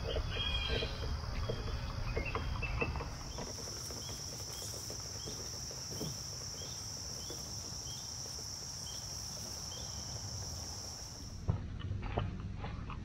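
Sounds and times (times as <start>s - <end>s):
insects droning: 0.0s - 11.4s.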